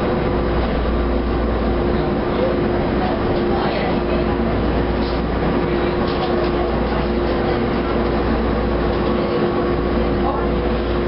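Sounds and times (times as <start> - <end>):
constant hum: 0.0 - 11.0
subway wheels rumbling on rails: 0.0 - 11.0.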